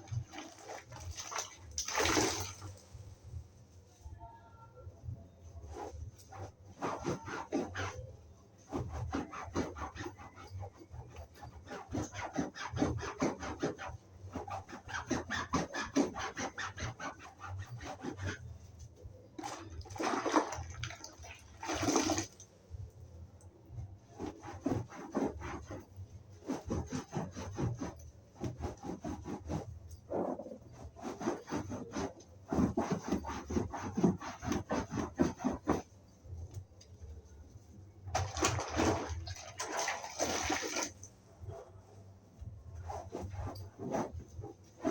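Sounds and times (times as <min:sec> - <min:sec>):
sponge scrubbing upholstery: 0:00.0 - 0:01.6, 0:05.6 - 0:22.3, 0:24.0 - 0:36.4, 0:37.5 - 0:41.0, 0:42.8 - 0:44.9.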